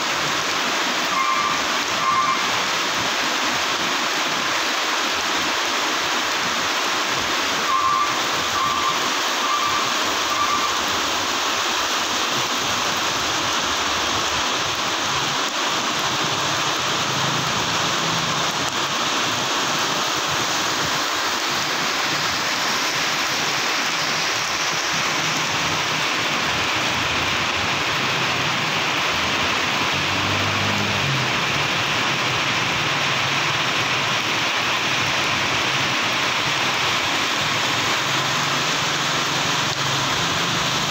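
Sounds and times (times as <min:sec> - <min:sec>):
heavy rain on wet road: 0:00.0 - 0:40.9
passing buses and trucks: 0:00.0 - 0:40.9.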